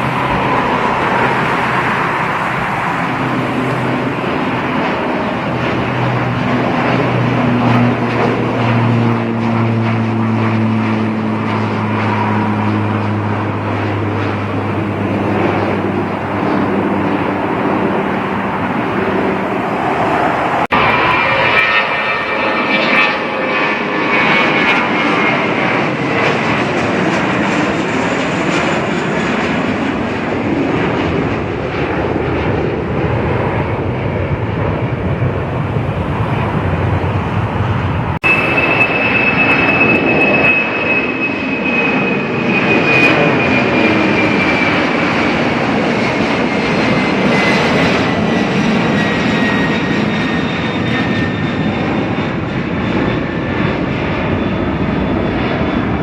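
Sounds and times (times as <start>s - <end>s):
high engine whine: 0.0s - 56.0s
jet airliner engines roaring: 0.0s - 56.0s.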